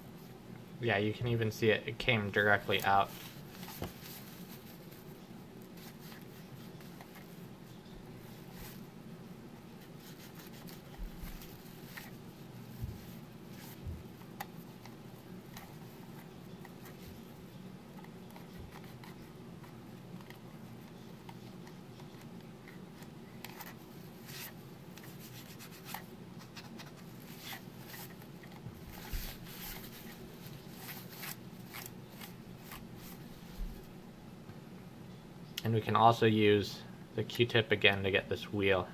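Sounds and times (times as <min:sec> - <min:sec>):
steady low hum: 0:00.0 - 0:38.9
wipe rustling and scratching: 0:01.2 - 0:08.9, 0:09.6 - 0:34.0.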